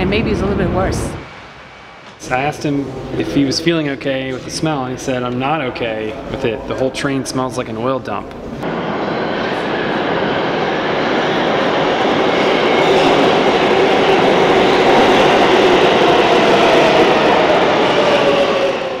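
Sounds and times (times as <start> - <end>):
subway train rumbling past: 0.0 - 19.0.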